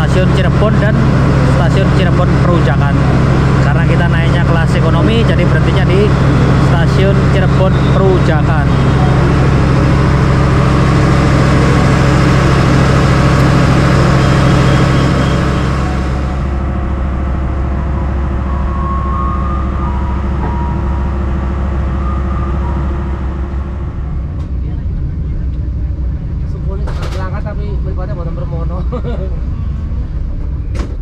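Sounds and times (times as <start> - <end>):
diesel train running: 0.0 - 31.0.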